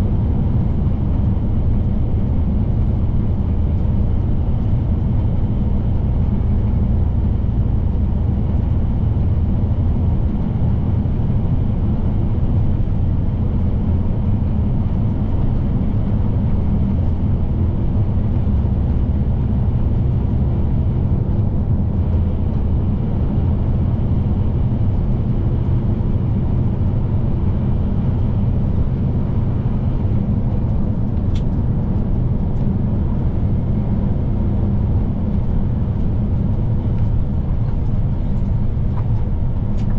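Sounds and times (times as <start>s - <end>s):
truck diesel engine rumble: 0.0s - 39.9s.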